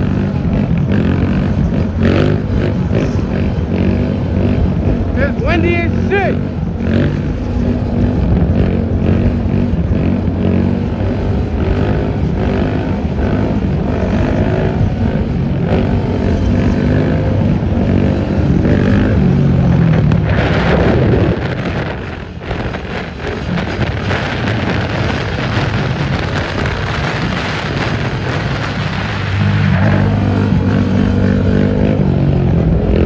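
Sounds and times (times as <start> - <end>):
quad engine revving: 0.0 - 33.0
road and traffic noise: 0.0 - 33.0
rush of noise: 0.0 - 33.0.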